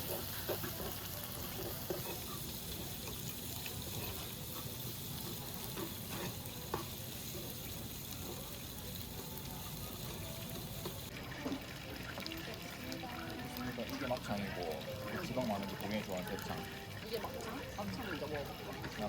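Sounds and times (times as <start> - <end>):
meat sizzling on a grill: 0.0 - 19.0.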